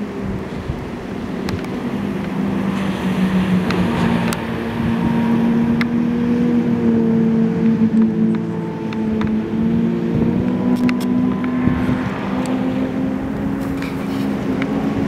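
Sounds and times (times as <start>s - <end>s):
motorboat engine running: 0.0s - 15.0s
rushing wind and water: 0.0s - 15.0s.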